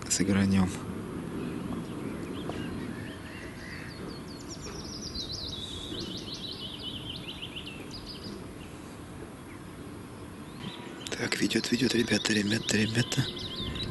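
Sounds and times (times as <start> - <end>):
low background noise: 0.0 - 13.9
songbird singing: 0.0 - 13.9.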